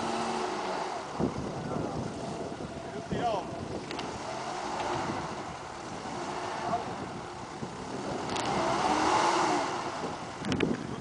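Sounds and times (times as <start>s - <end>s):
vehicle engines under load: 0.0s - 11.0s.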